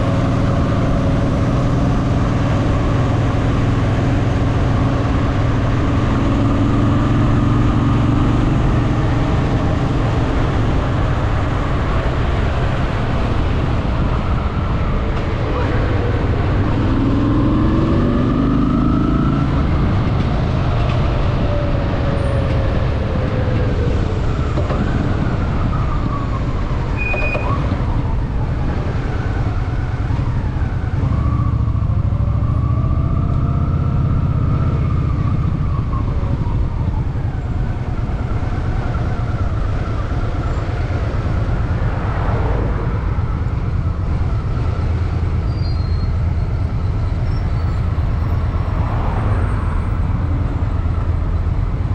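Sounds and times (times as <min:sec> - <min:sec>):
road traffic: 0:00.0 - 0:51.9.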